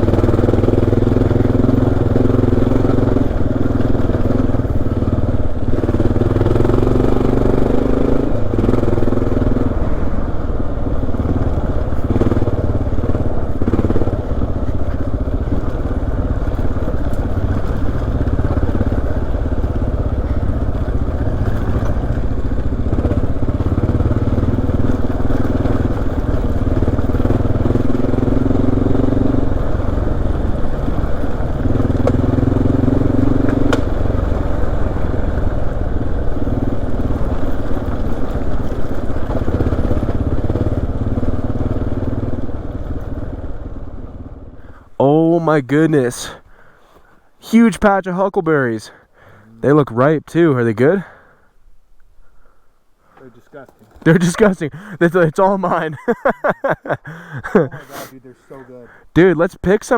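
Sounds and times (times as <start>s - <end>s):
motorcycle engine revving: 0.0s - 47.7s, 53.2s - 59.9s.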